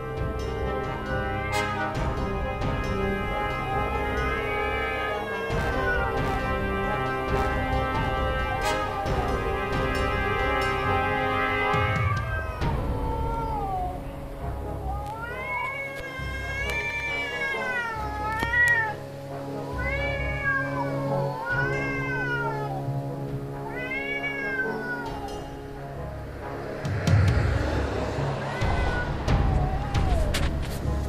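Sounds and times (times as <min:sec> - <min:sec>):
cats yowling: 0:00.0 - 0:02.0, 0:03.1 - 0:07.3, 0:07.9 - 0:10.7, 0:11.8 - 0:14.2, 0:14.8 - 0:26.7, 0:28.3 - 0:30.8
tense background music: 0:00.0 - 0:31.0.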